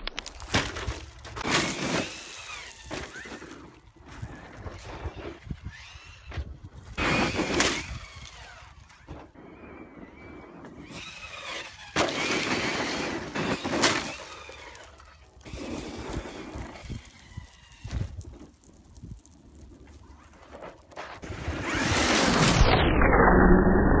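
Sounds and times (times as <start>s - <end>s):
tyres crunching gravel: 0.0s - 22.6s.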